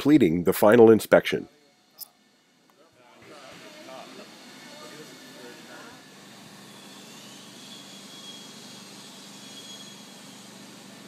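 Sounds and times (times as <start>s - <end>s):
faint high whine: 0.5s - 11.0s
machinery humming: 1.4s - 11.0s.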